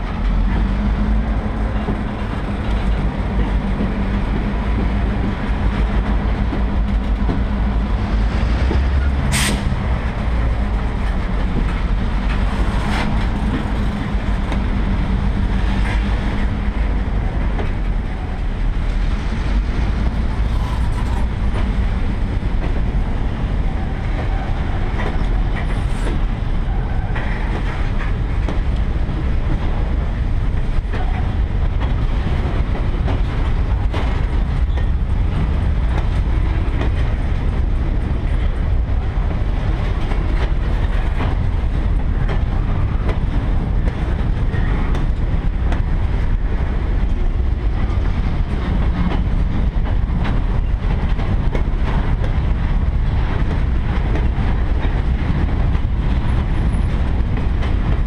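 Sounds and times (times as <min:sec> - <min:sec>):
freight train wheels rumbling: 0:00.0 - 0:58.0
railcar knocks: 0:00.0 - 0:58.0.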